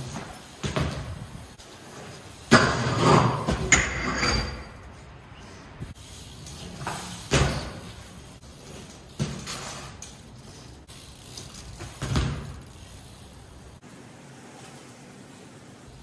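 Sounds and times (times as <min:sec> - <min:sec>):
bike thudding onto concrete: 0:00.0 - 0:05.0, 0:05.8 - 0:13.8.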